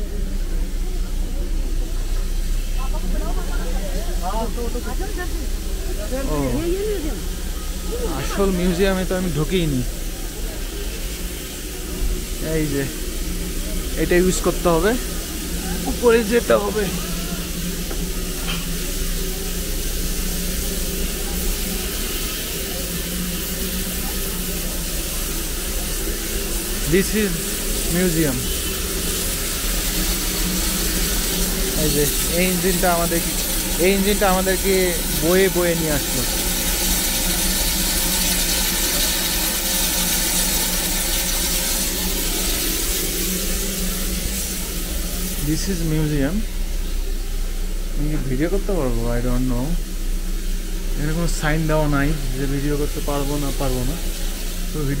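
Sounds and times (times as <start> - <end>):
low hum: 0.0 - 55.0
steam hissing: 0.0 - 55.0
train locomotive rumble: 0.0 - 55.0.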